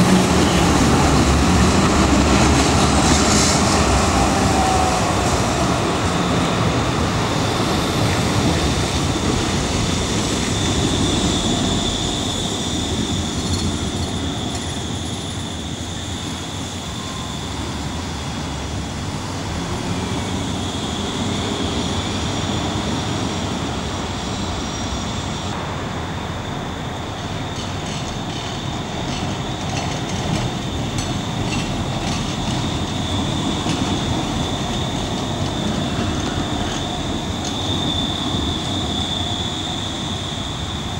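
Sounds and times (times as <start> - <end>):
trams rolling past: 0.0 - 40.9.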